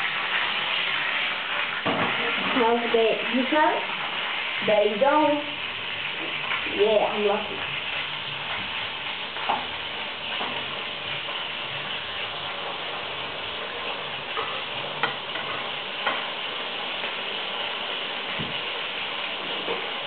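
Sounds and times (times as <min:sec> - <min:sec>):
steak sizzling in frying pan: 0:00.0 - 0:20.0.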